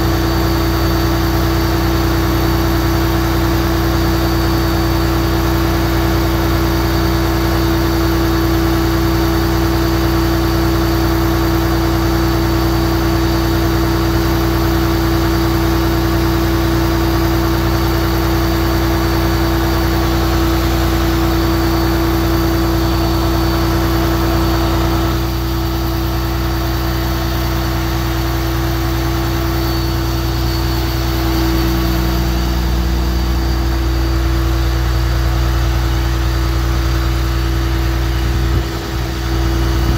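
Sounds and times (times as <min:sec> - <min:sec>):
fire engine motor humming: 0:00.0 - 0:39.9.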